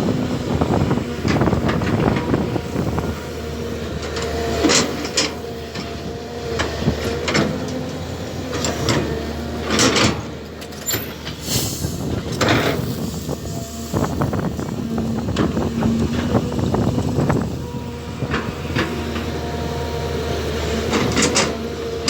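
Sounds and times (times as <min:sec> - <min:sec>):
excavator engine whining: 0:00.0 - 0:22.0.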